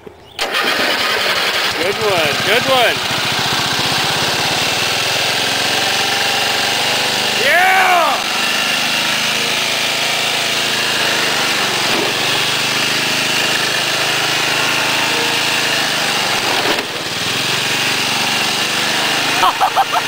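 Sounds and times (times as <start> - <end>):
lawn tractor engine running: 0.0 - 20.0.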